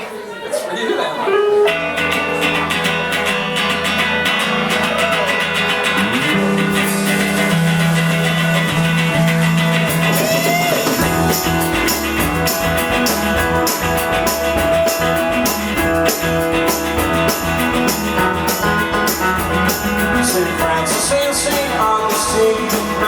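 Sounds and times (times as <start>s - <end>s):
guitar held low note: 1.3s - 20.3s
live rock band playing: 1.3s - 23.0s.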